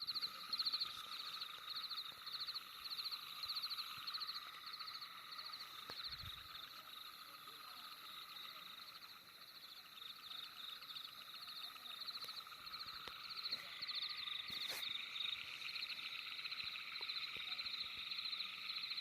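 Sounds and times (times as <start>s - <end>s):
rapid pulsed animal trills: 0.0s - 19.0s.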